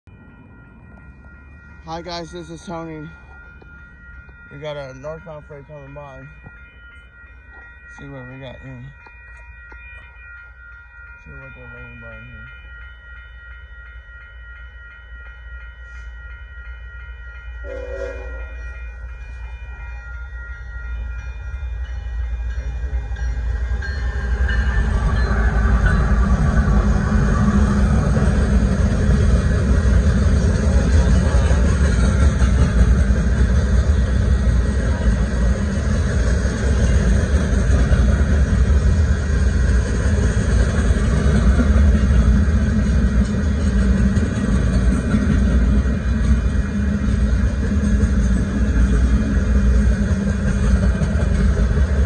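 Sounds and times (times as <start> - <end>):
freight train rumble and wheel noise: 0.0 - 52.0
railroad crossing bell ringing: 0.0 - 52.0.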